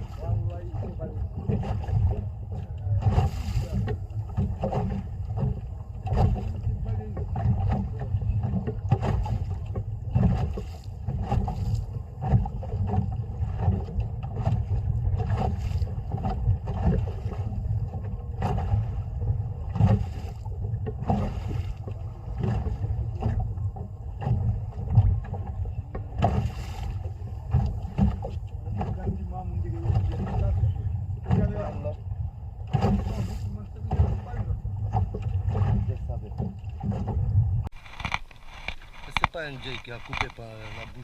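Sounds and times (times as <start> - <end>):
water slapping against boat hull: 0.0 - 41.0
wind rumble on microphone: 0.0 - 41.0.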